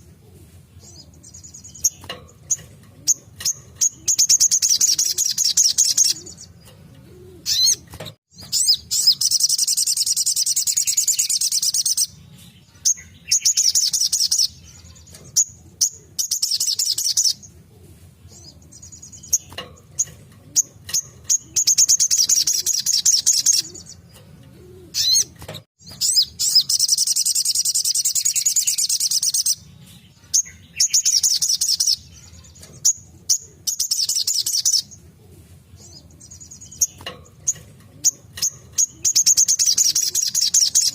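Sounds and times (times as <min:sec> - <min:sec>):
bird chirps: 0:00.8 - 0:17.6, 0:18.2 - 0:35.0, 0:35.7 - 0:40.9.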